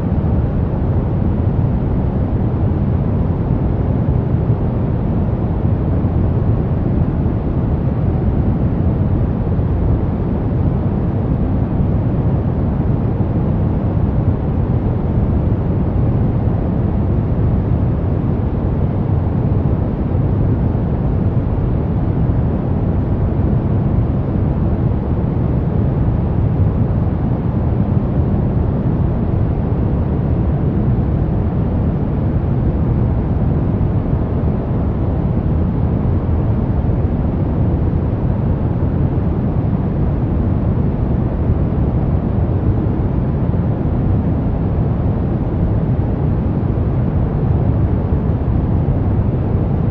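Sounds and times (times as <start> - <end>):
brown noise: 0.0 - 49.9.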